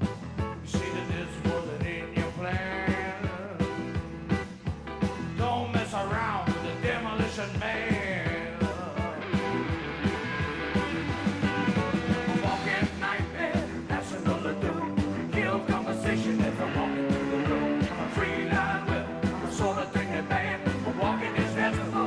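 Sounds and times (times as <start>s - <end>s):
drums steady beat: 0.0s - 22.0s
electric guitar: 0.0s - 22.0s
keyboard: 0.0s - 22.0s.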